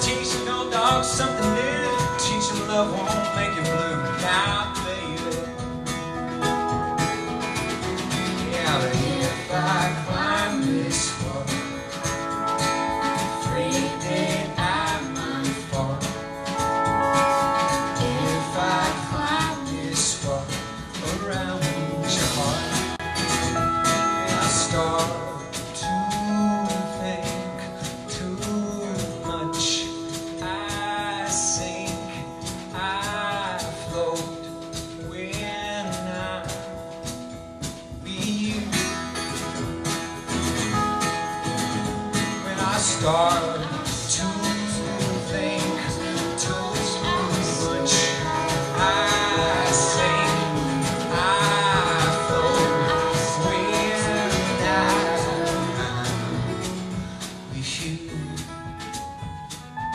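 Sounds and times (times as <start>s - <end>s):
acoustic guitar: 0.0s - 59.9s
drum kit: 0.0s - 59.9s
sliding lead melody: 0.0s - 59.9s.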